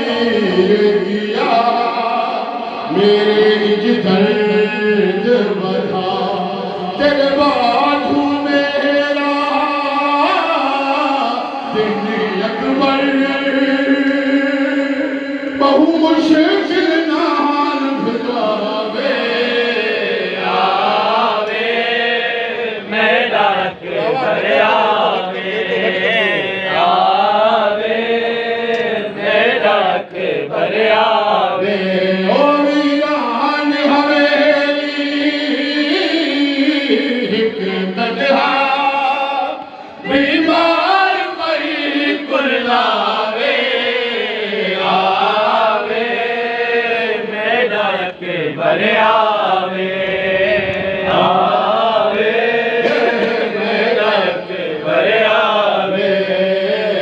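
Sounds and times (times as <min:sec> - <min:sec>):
voices chanting a lament: 0:00.0 - 0:57.0.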